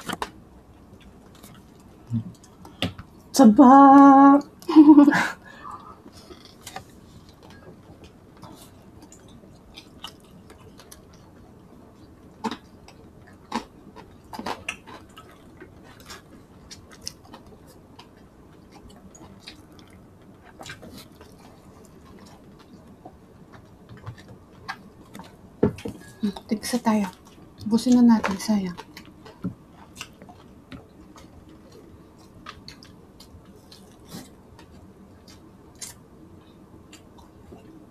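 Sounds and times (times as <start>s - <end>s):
person chewing: 0.0s - 2.8s, 5.5s - 26.5s, 28.2s - 37.8s.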